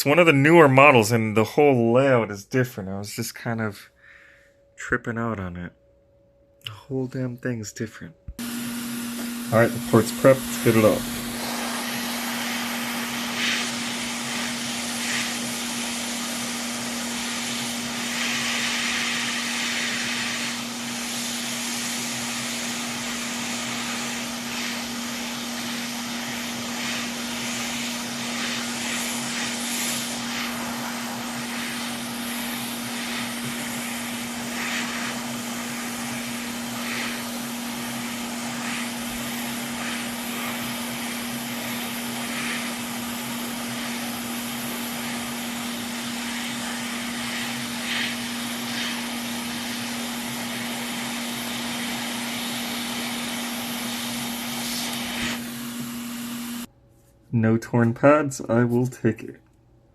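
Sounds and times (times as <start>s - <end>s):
hot air station fan hum: 8.3s - 56.7s
airflow hiss: 8.4s - 56.7s
sharp hissing flare-ups: 8.4s - 56.7s.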